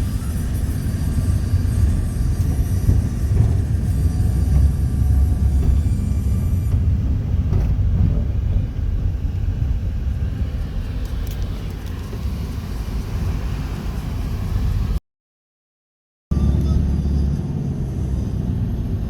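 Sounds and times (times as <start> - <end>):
vehicle engine and road noise: 0.0 - 15.0, 16.3 - 19.0.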